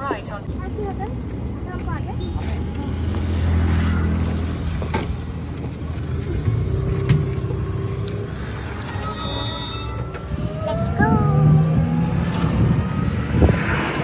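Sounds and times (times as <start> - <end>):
vehicle engine running: 0.4 - 13.1.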